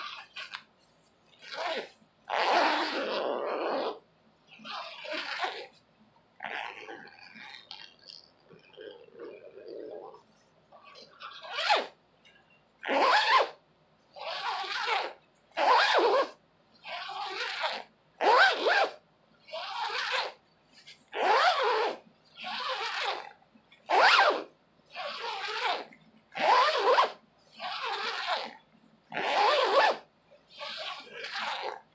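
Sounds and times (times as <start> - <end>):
zipper zipped up and down: 0.0 - 0.7, 1.4 - 5.8, 6.4 - 12.0, 12.8 - 13.6, 14.2 - 20.4, 21.1 - 31.9.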